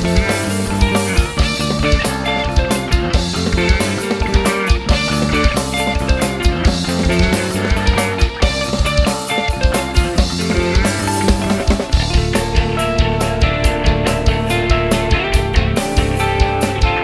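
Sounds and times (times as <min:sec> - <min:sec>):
drum kit steady beat: 0:00.0 - 0:17.0
electric guitars: 0:00.0 - 0:17.0.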